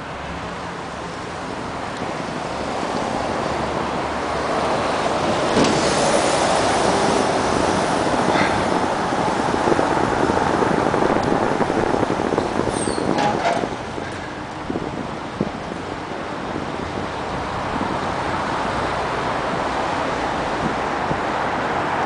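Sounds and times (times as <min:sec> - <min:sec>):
city traffic: 0:00.0 - 0:22.0
wind rushing over microphone: 0:01.4 - 0:22.0.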